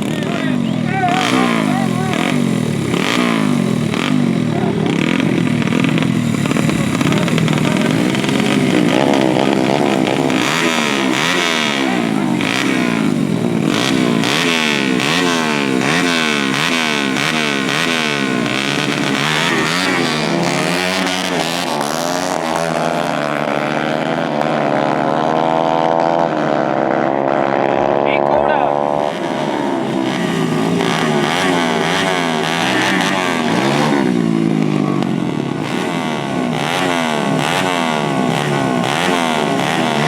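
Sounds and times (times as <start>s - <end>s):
dirt bike engines revving: 0.0s - 40.0s
engine accelerating: 0.0s - 40.0s.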